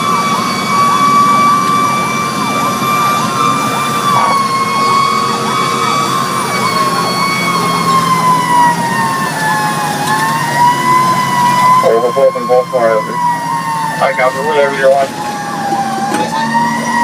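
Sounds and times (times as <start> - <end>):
electronic siren sweeping: 0.0 - 17.0
siren wailing: 0.0 - 17.0
truck engine rumbling: 0.0 - 17.0.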